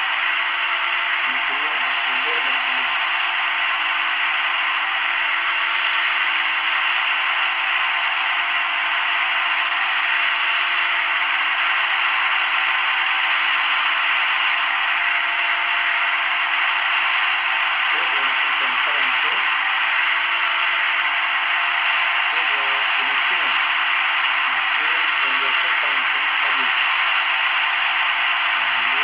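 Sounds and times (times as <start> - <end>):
simulated lathe machining noise: 0.0 - 29.0.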